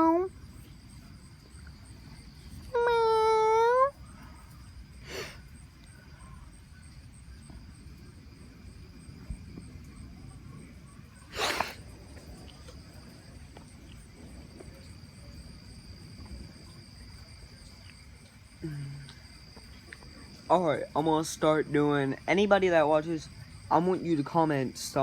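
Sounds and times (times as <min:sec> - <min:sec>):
insects chirring: 0:00.0 - 0:25.0
low background rumble: 0:00.0 - 0:25.0.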